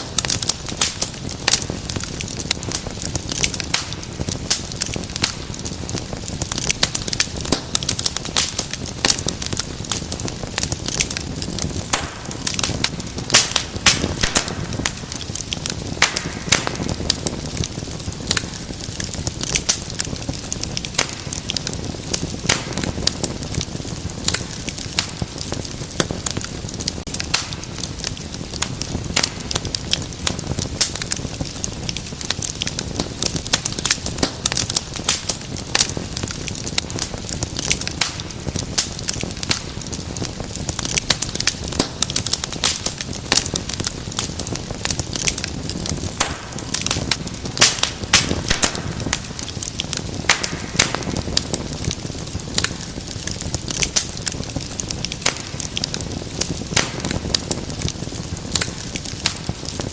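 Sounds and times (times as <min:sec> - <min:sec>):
fire crackling and popping: 0:00.0 - 0:59.9
low rumble of burning: 0:00.0 - 0:59.9.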